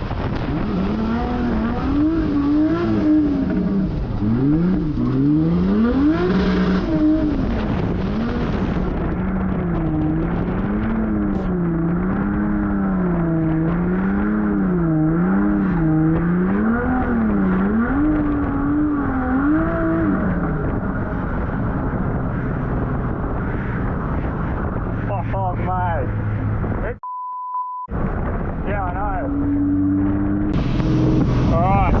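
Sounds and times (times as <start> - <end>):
car engine revving: 0.0 - 27.0, 27.9 - 32.0.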